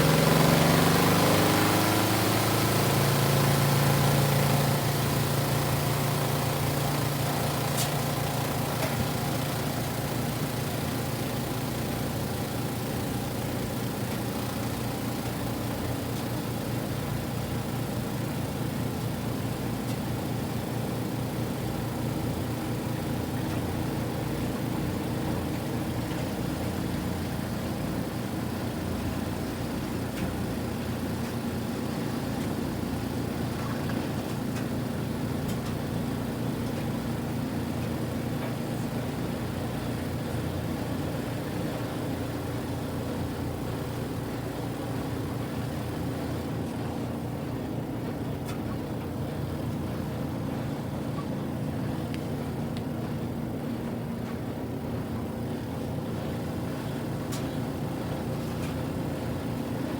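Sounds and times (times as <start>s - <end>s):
washing machine motor humming: 0.0s - 59.9s.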